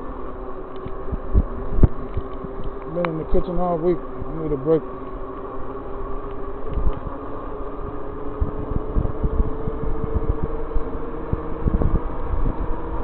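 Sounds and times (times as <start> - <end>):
electric motor whine: 0.0 - 13.0
wind buffeting microphone: 0.8 - 4.7, 6.4 - 13.0.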